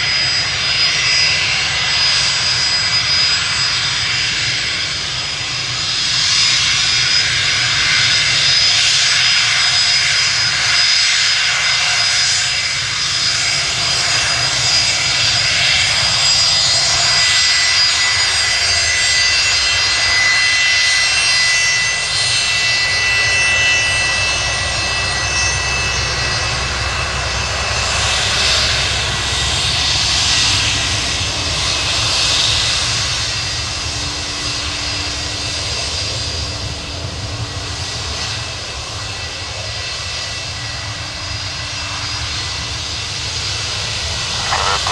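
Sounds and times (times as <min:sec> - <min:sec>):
jet engines whining and roaring: 0:00.0 - 0:44.9.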